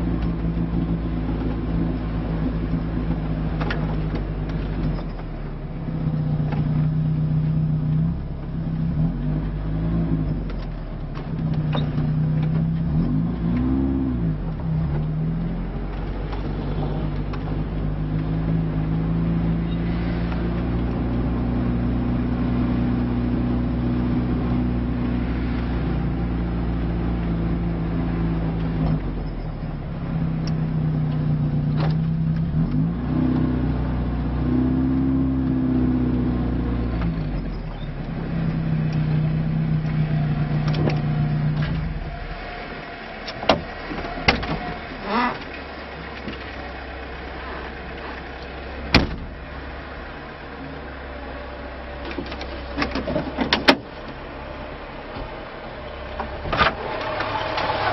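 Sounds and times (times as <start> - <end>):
car engine revving under load: 0.0 - 57.9.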